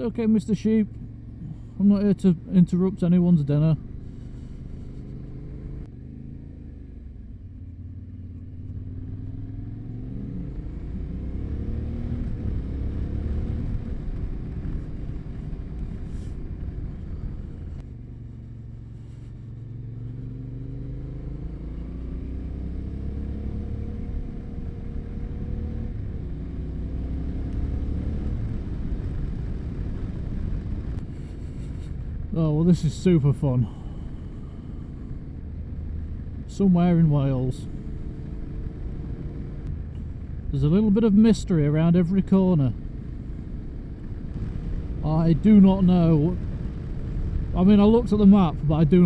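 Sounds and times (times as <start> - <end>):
motorcycle engine revving: 3.8 - 32.4, 34.0 - 49.0.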